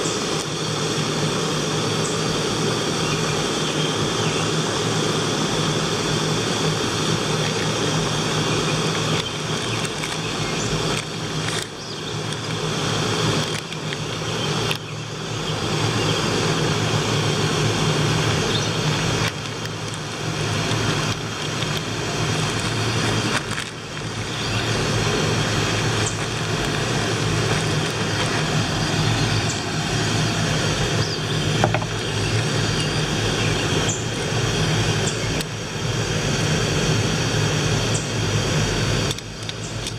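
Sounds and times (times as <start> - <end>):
gas stove hissing: 0.0 - 39.9.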